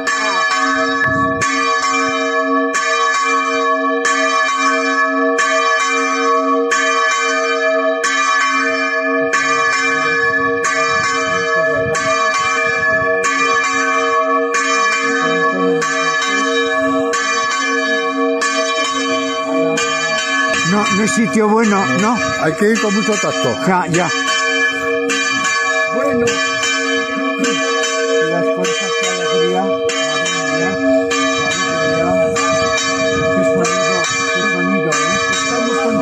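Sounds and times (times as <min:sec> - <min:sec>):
bell ringing: 0:00.0 - 0:36.0.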